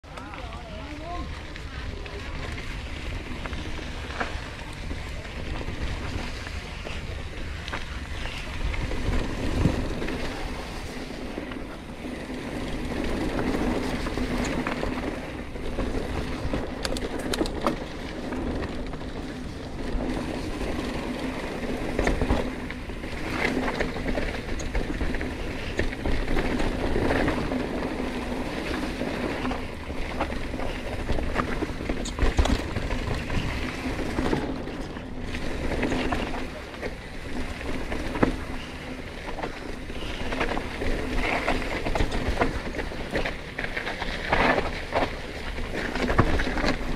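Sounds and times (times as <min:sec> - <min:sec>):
bike rattling and knocking: 0:00.0 - 0:46.9
bike tyres rumbling on dirt: 0:00.0 - 0:46.9.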